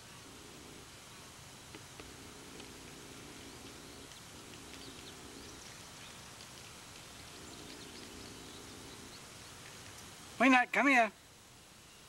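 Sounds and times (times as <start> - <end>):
small birds chirping: 0.0 - 10.5
steady hiss: 0.0 - 12.0.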